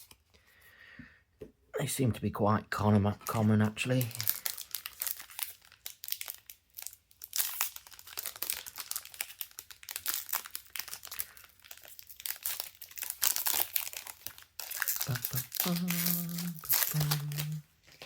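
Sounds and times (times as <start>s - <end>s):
wrapper crinkling and tearing: 3.2s - 18.0s.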